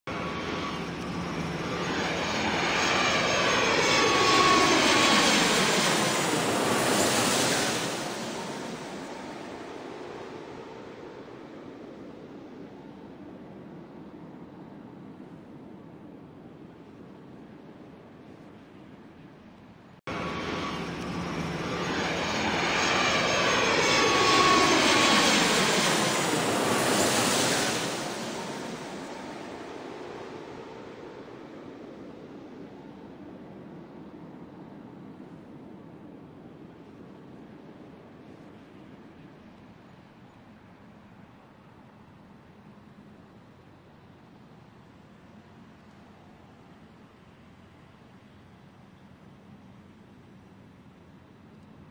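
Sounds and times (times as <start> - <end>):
airplane engine flying past: 0.1 - 17.0, 20.0 - 51.9.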